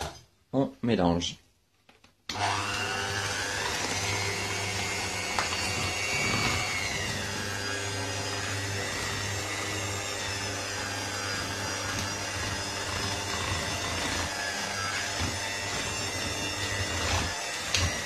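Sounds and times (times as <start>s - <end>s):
electric hand mixer whisking batter: 2.3s - 18.0s.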